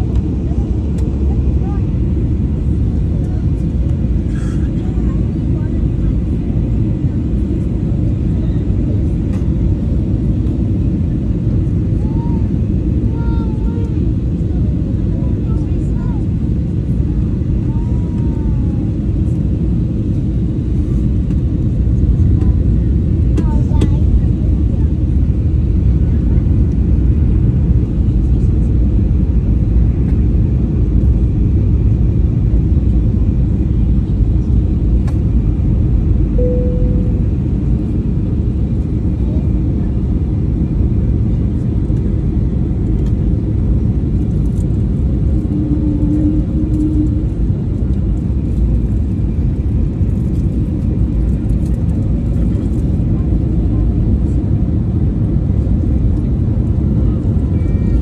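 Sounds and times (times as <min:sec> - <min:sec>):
airliner cabin airflow and engine noise: 0:00.0 - 0:58.0.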